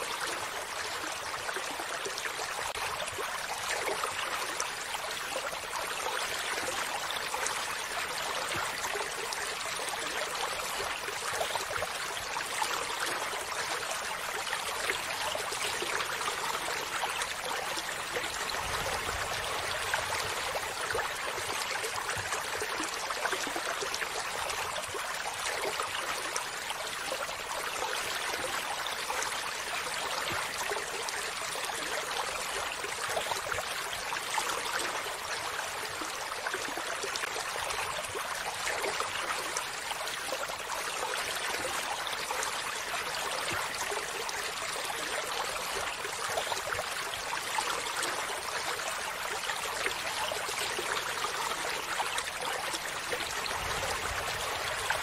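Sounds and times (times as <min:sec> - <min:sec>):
stream babbling over rocks: 0:00.0 - 0:55.0.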